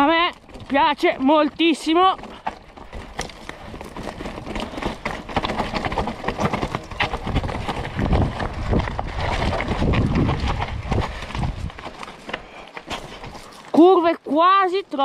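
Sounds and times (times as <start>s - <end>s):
bike clattering over rocks: 0.0s - 14.1s.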